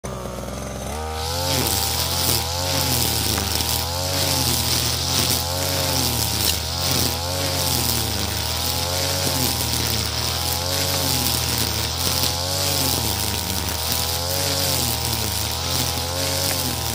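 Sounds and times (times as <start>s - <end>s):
brush cutter engine cutting grass: 0.0s - 16.9s.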